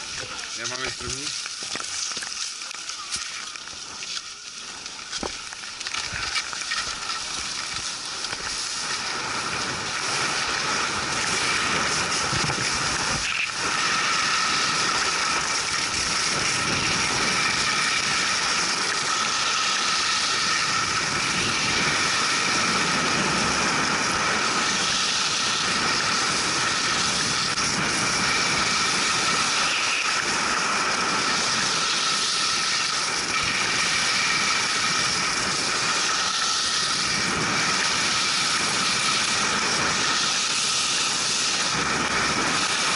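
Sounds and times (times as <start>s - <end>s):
skis hissing on snow: 0.0s - 42.9s
wind on microphone: 6.0s - 42.9s.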